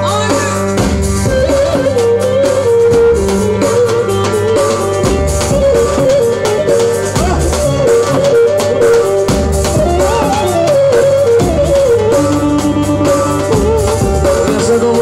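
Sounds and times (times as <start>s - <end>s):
steady drum beats: 0.0s - 15.0s
wavering dance melody: 0.0s - 15.0s.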